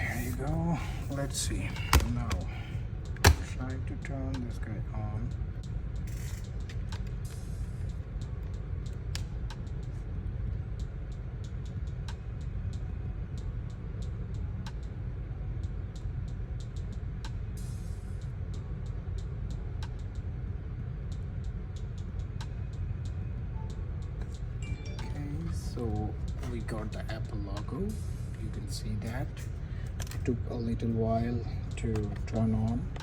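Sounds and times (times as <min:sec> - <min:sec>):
low background rumble: 0:00.0 - 0:33.0.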